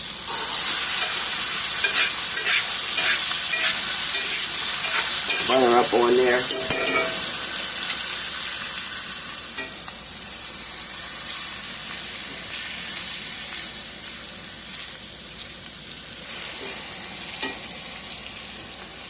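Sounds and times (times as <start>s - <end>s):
steak sizzling in a pan: 0.0s - 19.0s.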